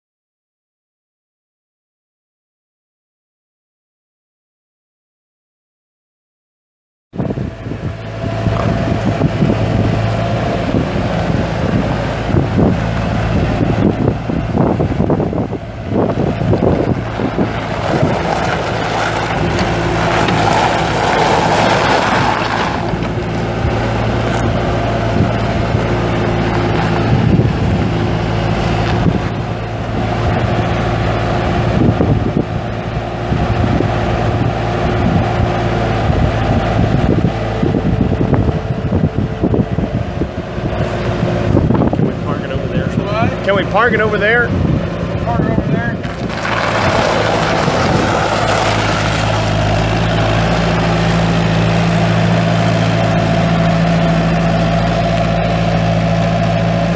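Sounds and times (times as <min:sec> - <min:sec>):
wind buffeting microphone: 0:07.2 - 0:53.3
diesel engine running: 0:07.2 - 0:56.9.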